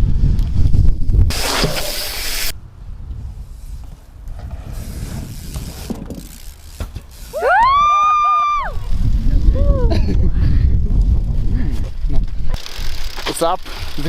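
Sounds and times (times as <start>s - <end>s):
wind buffeting microphone: 0.0s - 1.4s, 2.5s - 13.2s.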